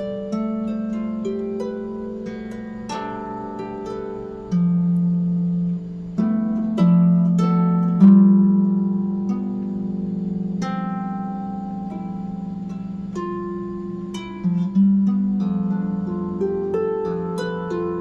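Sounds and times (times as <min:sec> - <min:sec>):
slow plucked harp-like music: 0:00.0 - 0:18.0.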